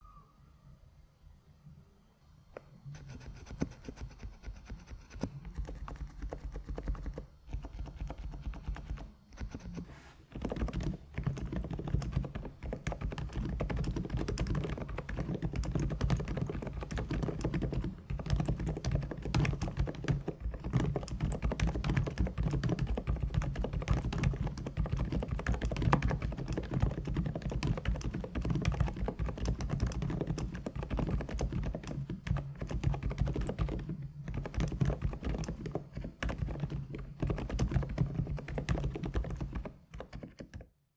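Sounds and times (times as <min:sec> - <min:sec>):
dampened keyboard typing: 0:03.0 - 0:40.8.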